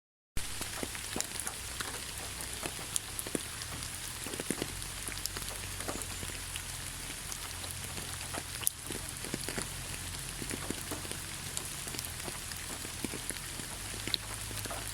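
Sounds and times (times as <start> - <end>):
steady rain falling: 0.4 - 14.9.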